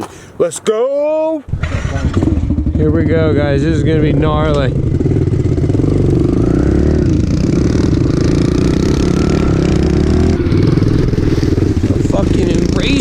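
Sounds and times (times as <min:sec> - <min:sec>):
small motorbike engines revving: 0:01.5 - 0:13.0.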